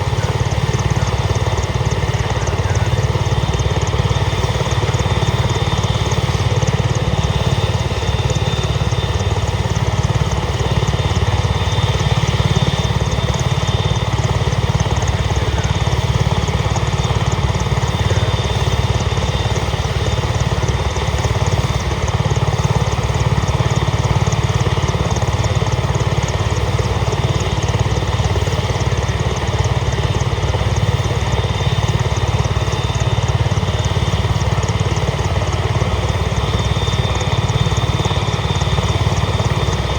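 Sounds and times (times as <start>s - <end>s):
helicopter engines and rotor: 0.0s - 39.9s.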